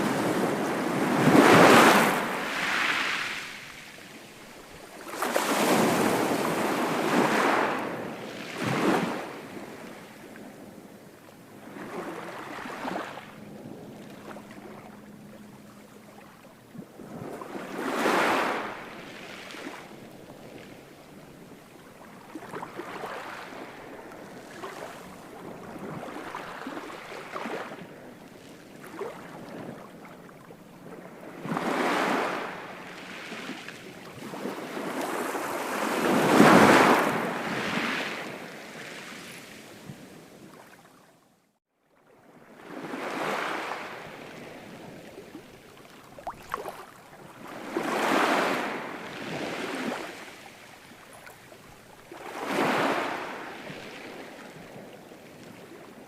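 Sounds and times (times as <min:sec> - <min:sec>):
ocean waves breaking: 0:00.0 - 0:40.4, 0:42.4 - 0:56.0.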